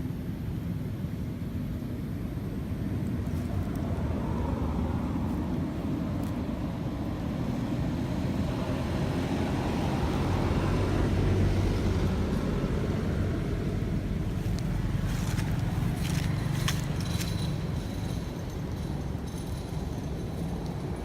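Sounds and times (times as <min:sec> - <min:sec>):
steady low rumbling noise: 0:00.0 - 0:21.0.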